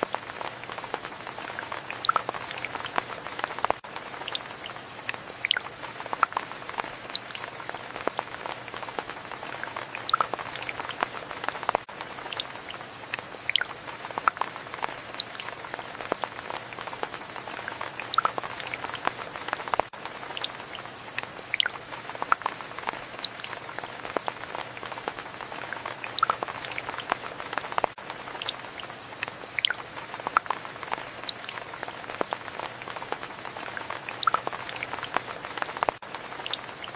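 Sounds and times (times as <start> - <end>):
raindrops pattering close by: 0.0 - 36.9
steady rain: 0.0 - 36.9.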